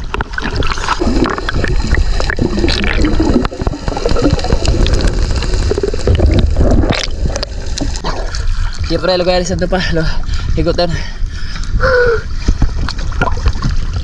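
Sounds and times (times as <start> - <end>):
water gurgling and churning: 0.0 - 14.0.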